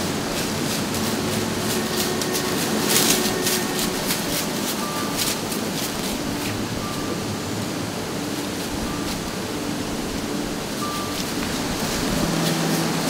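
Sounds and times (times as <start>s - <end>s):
footsteps crunching dry leaves: 0.0s - 13.0s
steady rumbling background noise: 0.0s - 13.0s.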